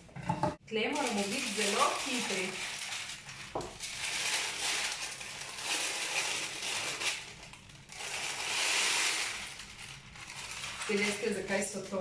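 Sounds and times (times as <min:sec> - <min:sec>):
baking paper rustling: 0:00.8 - 0:12.0.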